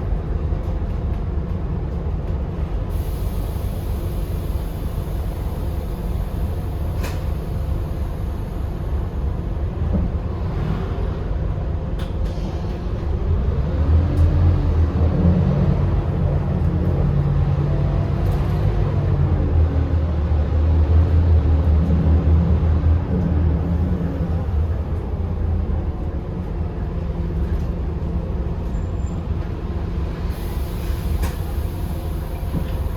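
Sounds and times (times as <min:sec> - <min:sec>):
bus diesel engine running: 0:00.0 - 0:32.9.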